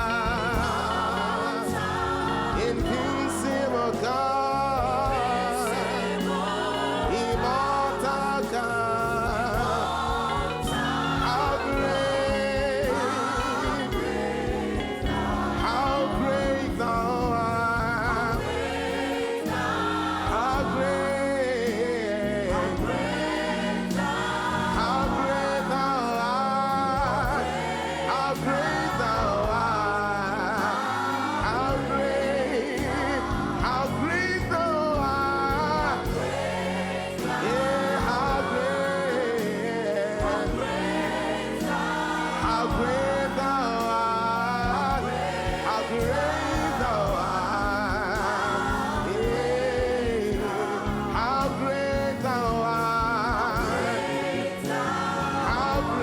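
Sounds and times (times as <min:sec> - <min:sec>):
instrumental backing: 0:00.0 - 0:56.0
voices singing gospel: 0:00.0 - 0:56.0.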